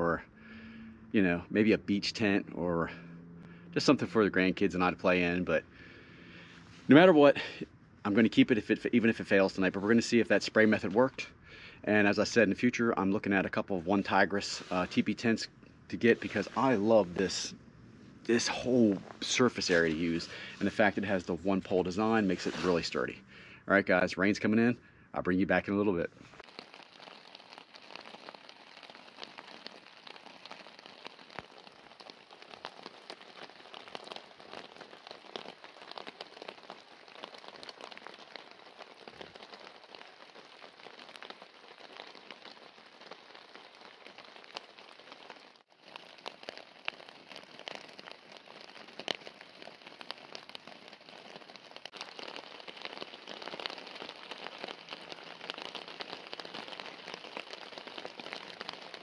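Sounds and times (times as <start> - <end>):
rain pattering on tent fabric: 3.8 - 11.4, 12.0 - 17.6, 18.2 - 23.3, 26.2 - 59.0.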